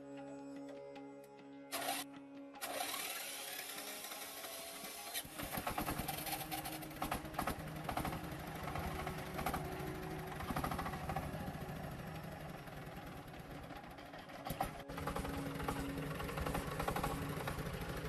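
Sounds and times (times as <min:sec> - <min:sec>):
engine running with fast beat: 0:02.6 - 0:18.0.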